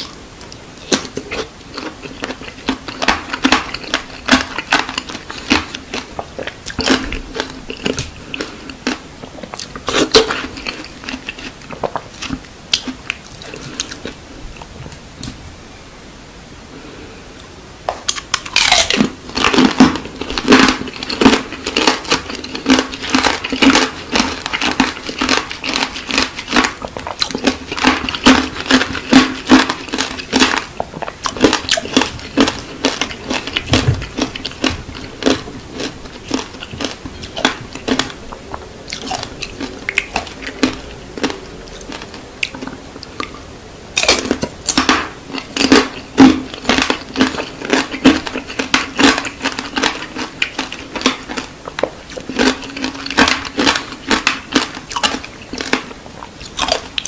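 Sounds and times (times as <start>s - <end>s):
crunchy chewing: 0.0s - 14.7s, 18.0s - 57.0s.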